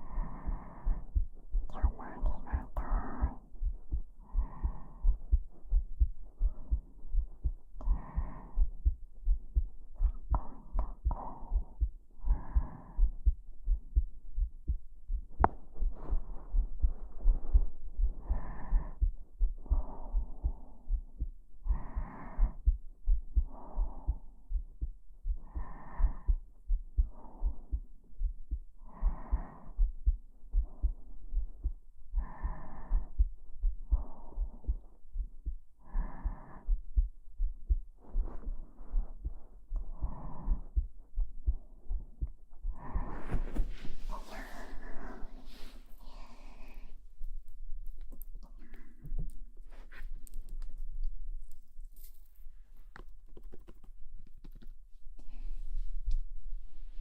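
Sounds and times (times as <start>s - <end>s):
heartbeat thumps: 0.0s - 47.9s
close-up breathing: 0.0s - 53.9s, 54.5s - 57.0s.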